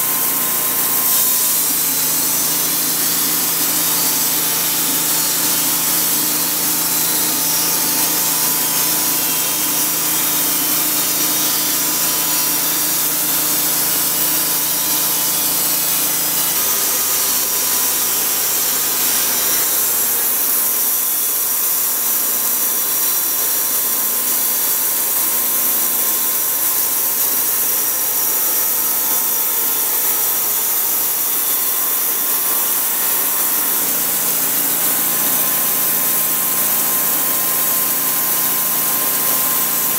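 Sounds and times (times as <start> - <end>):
band saw cutting log: 0.0 - 39.9
sawmill engine running: 0.0 - 39.9.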